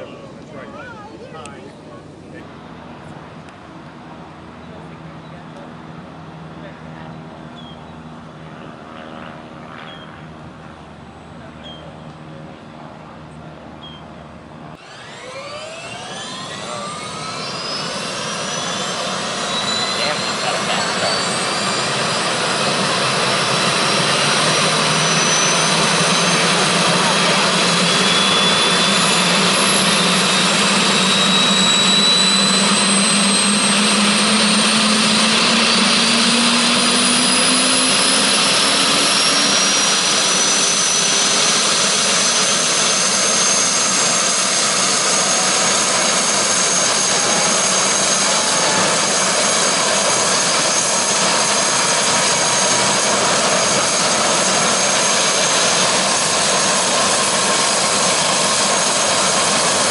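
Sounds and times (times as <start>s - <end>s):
helicopter turbine whine: 0.0s - 59.9s
rushing rotor noise: 0.0s - 59.9s.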